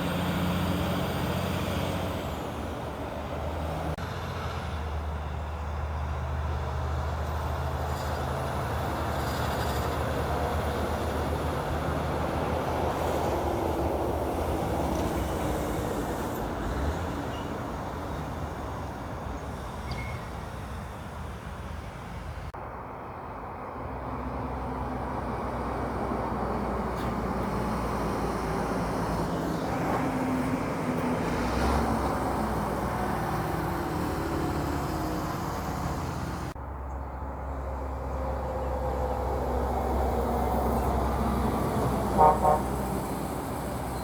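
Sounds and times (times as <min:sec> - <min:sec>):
heavy truck diesel engines passing: 0:00.0 - 0:44.0.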